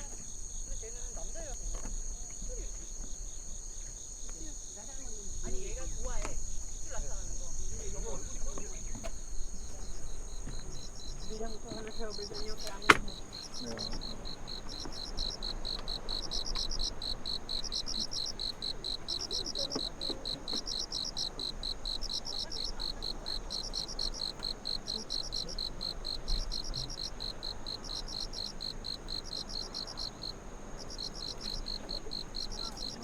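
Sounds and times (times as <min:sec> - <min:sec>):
high insect trill: 0:00.0 - 0:33.0
insects chirping: 0:00.0 - 0:33.0.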